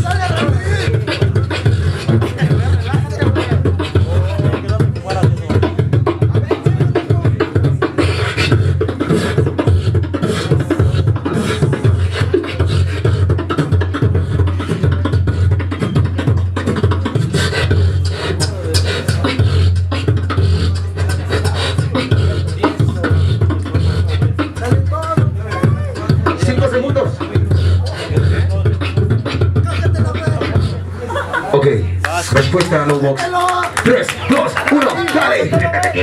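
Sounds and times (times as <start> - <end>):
beatboxing into a microphone: 0.0 - 36.0.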